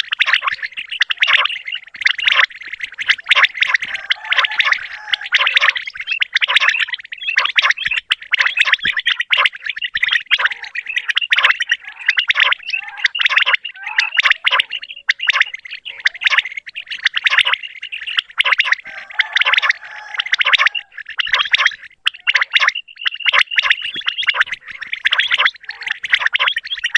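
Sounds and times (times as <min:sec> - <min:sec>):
quails calling: 0:00.0 - 0:26.9.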